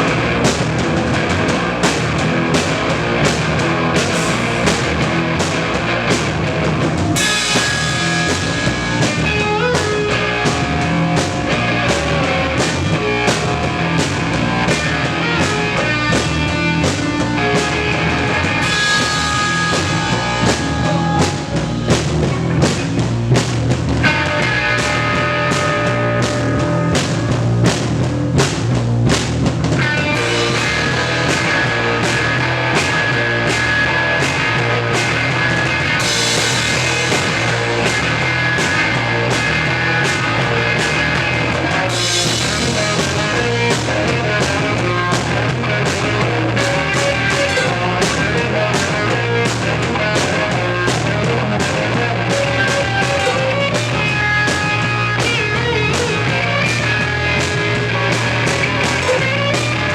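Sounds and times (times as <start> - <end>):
drum kit beat: 0.0 - 59.9
punk rock band playing live: 0.0 - 59.9.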